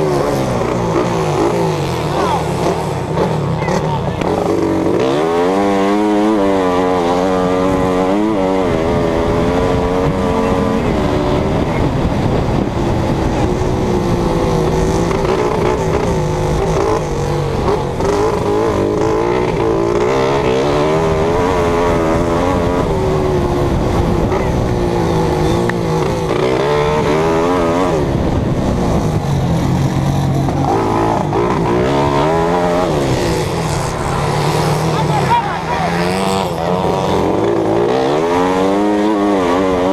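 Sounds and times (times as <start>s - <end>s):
race engine revving: 0.0s - 39.9s
steady rush of noise: 0.0s - 39.9s.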